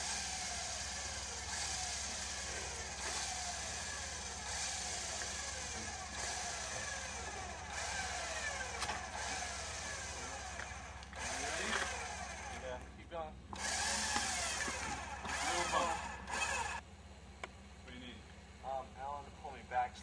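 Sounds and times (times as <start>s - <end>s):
off-road vehicle engines running: 0.0s - 20.0s
steady low hum: 0.0s - 20.0s.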